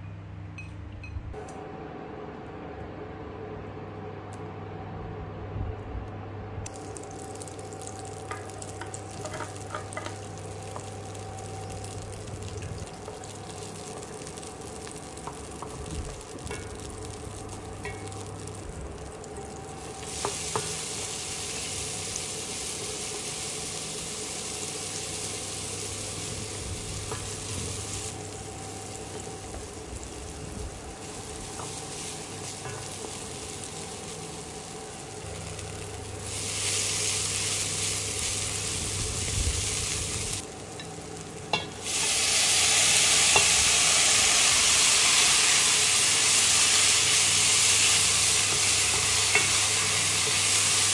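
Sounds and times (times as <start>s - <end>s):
steady low hum: 0.0s - 50.9s
butter sizzling in a pan: 6.7s - 50.9s.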